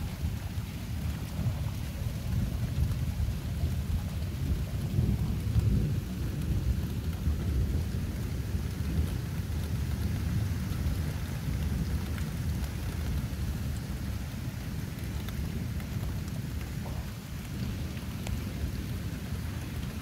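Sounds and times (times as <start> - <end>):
thunder rumbling: 0.0 - 20.0.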